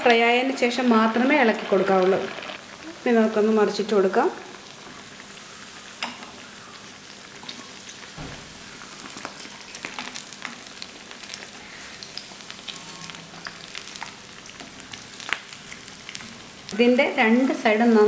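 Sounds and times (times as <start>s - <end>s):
fritters sizzling in hot oil: 0.0s - 18.0s.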